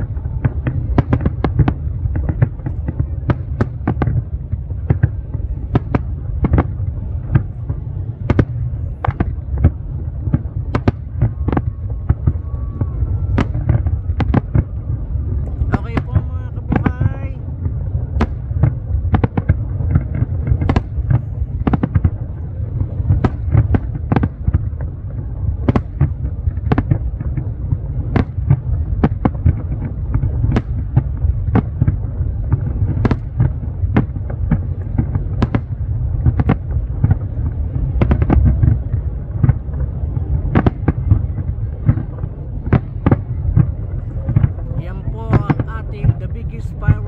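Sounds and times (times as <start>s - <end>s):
fireworks bursting with sharp bangs: 0.0s - 47.0s
low rumble: 0.0s - 47.0s.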